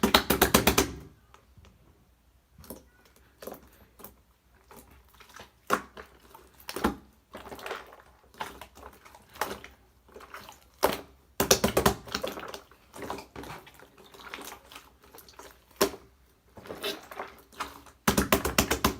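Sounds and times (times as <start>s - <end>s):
hands squishing slime: 0.0s - 1.3s, 2.6s - 18.9s.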